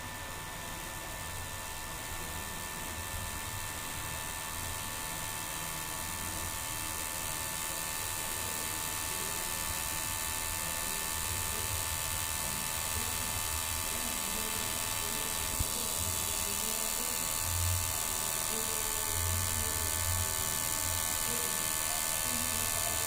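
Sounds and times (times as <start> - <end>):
charger electrical hum and whine: 0.0 - 23.0.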